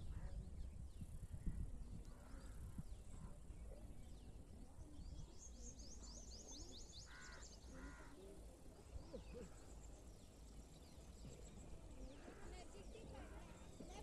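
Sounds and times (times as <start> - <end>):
faint bird calls: 1.4 - 4.0, 4.8 - 14.0.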